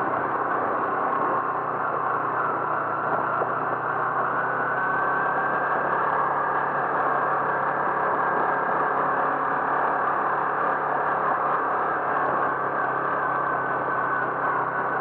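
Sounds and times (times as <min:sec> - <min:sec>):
car engine and road noise: 0:00.0 - 0:15.0
faint whine: 0:00.0 - 0:15.0.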